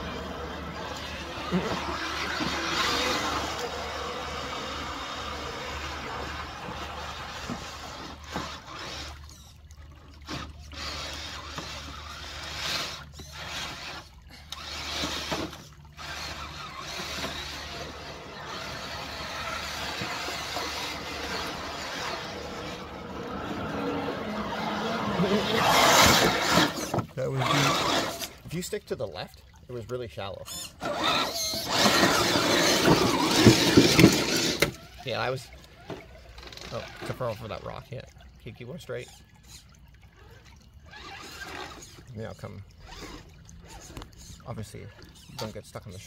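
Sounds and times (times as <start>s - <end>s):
electric motors whining: 0.0s - 28.5s, 30.5s - 37.6s, 39.4s - 42.1s, 42.8s - 45.6s
water splashing and churning: 0.0s - 46.0s.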